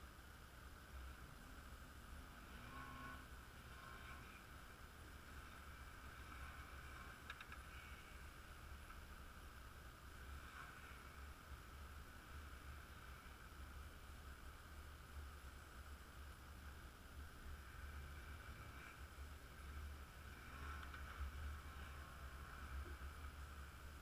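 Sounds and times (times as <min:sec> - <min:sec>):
faint low rumble: 0:00.0 - 0:24.0.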